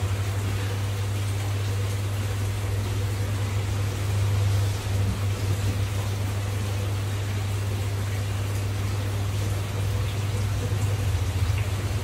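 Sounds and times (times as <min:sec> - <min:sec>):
aquarium pump humming: 0:00.0 - 0:12.0
trickling water: 0:00.0 - 0:12.0.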